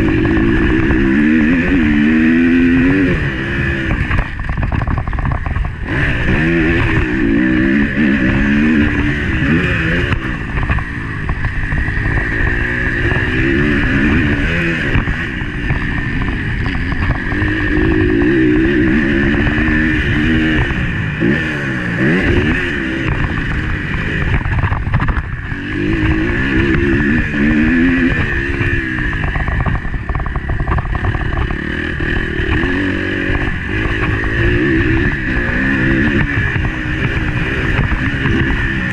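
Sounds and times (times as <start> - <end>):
motocross bike engine revving: 0.0 - 38.9
wind noise on microphone: 0.0 - 38.9.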